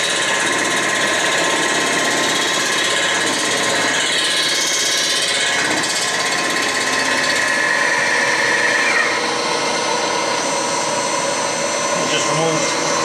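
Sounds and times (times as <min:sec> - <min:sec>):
high cutter tone: 0:00.0 - 0:13.0
milling machine cutting metal: 0:00.0 - 0:13.0.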